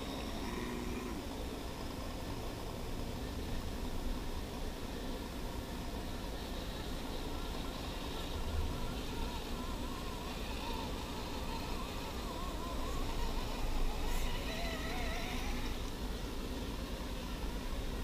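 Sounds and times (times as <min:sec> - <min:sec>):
electric motor and gears whining: 0:00.0 - 0:18.0
outdoor hiss: 0:00.0 - 0:18.0.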